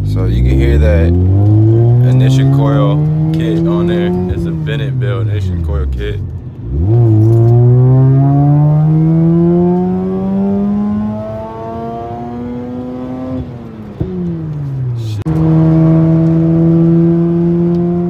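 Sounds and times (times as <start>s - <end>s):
rotary engine revving: 0.0s - 18.0s.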